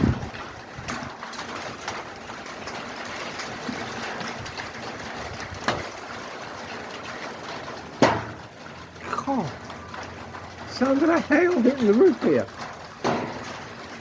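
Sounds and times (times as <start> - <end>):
hailstones knocking on a roof: 0.0 - 14.0
rain on a roof: 0.0 - 14.0.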